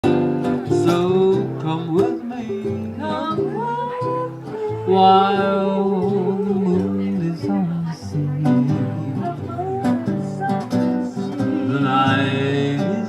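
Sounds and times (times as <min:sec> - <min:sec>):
guitar band instrumental: 0:00.0 - 0:13.0
sliding guitar melody: 0:00.0 - 0:13.0.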